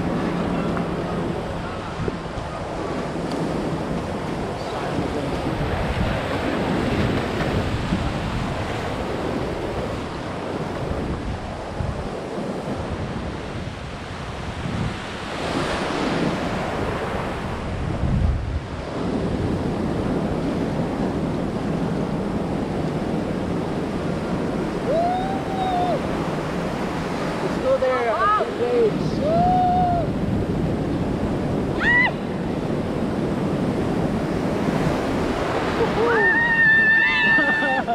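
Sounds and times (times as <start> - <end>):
ocean surf washing and breaking: 0.0 - 37.9
wind buffeting microphone: 0.0 - 37.9.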